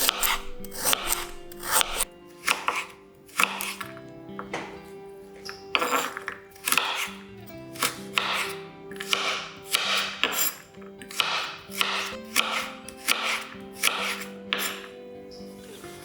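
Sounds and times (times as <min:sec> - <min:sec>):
rasping strokes on vegetables: 0:00.0 - 0:03.9, 0:05.8 - 0:16.0
soft background music: 0:00.0 - 0:16.0.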